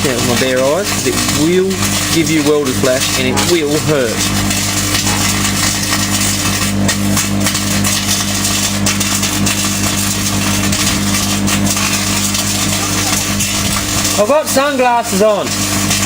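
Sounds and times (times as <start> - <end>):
foil arcing crackling buzz: 0.0 - 16.0
microwave oven humming: 0.0 - 16.0.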